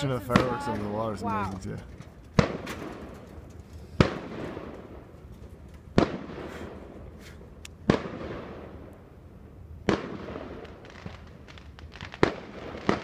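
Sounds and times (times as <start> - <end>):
fireworks bursting with echo: 0.0 - 9.0, 9.8 - 13.0.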